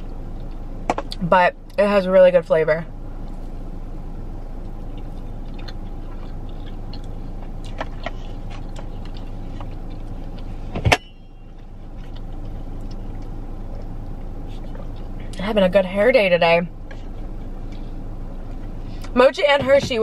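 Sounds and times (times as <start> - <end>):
car cabin hum: 0.0 - 20.0.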